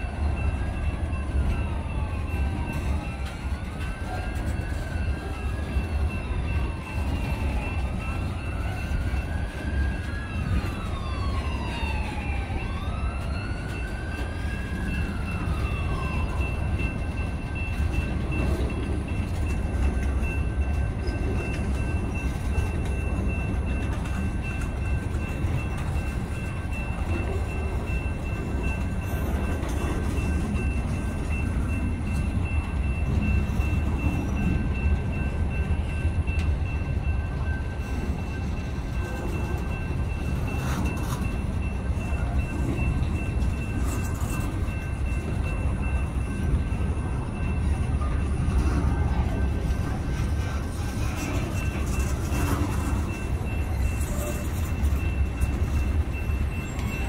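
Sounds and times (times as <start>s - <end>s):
siren wailing: 0.0s - 57.0s
train wheels rumbling on rail: 0.0s - 57.0s.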